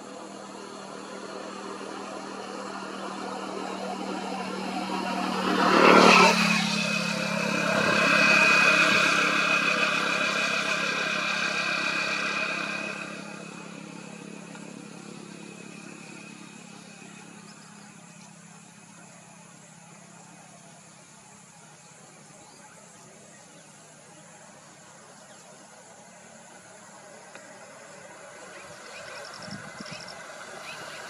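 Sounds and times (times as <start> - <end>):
motor vehicle passing by: 0.0 - 31.0.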